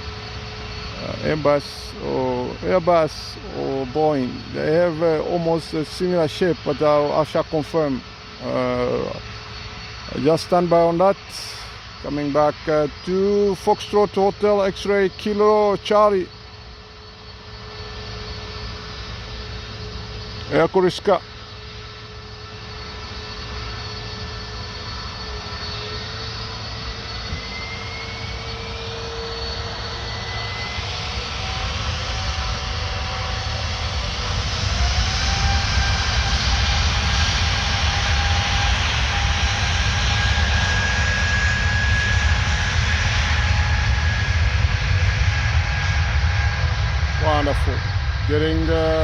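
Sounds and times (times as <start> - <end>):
jet engines spooling up: 0.0 - 49.0.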